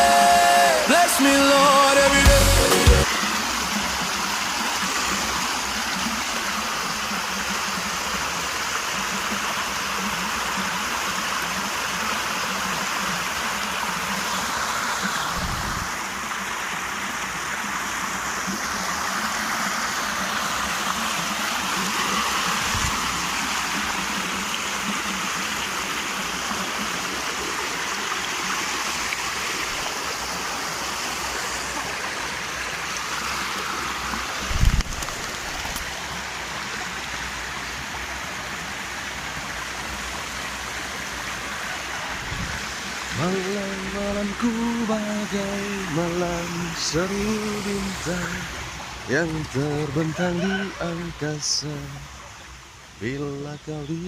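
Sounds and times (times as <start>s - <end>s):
running and splashing water: 0.8s - 53.2s.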